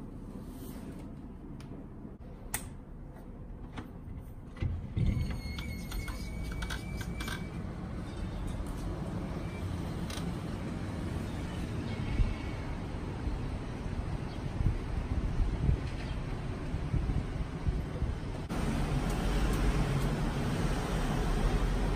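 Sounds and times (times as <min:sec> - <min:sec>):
low city rumble: 0:00.0 - 0:21.9.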